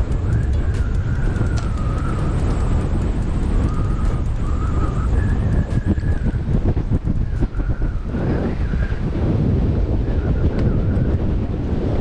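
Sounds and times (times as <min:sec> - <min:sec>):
thin wavering whistle: 0:00.0 - 0:09.2, 0:10.0 - 0:11.2
wind buffeting microphone: 0:00.0 - 0:12.0.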